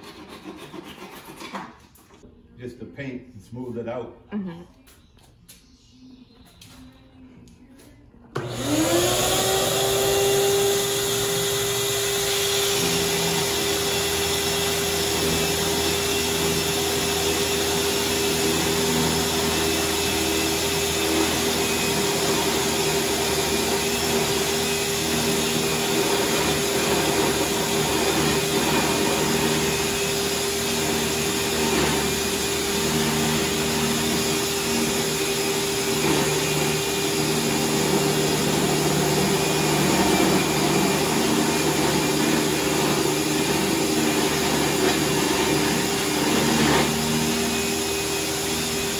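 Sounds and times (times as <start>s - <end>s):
orbital sander whine: 8.4s - 48.9s.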